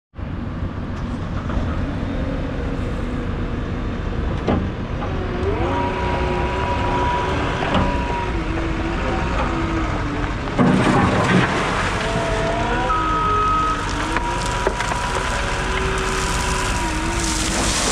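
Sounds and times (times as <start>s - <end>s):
diesel engine running: 0.2s - 17.9s.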